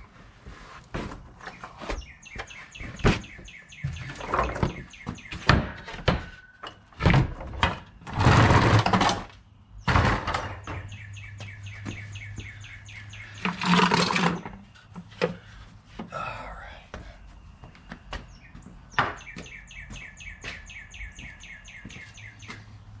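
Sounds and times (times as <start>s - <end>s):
birds chirping: 0.0s - 7.0s, 9.4s - 23.0s.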